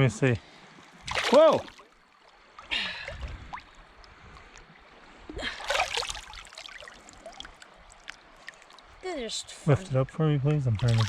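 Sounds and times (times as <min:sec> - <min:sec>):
shallow water splashing: 0:00.4 - 0:09.7, 0:10.6 - 0:11.0.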